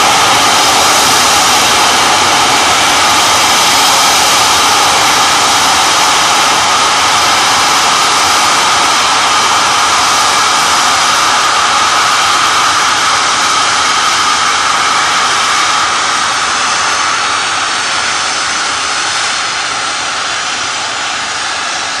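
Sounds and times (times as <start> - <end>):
gas venting with rushing hiss: 0.0 - 22.0.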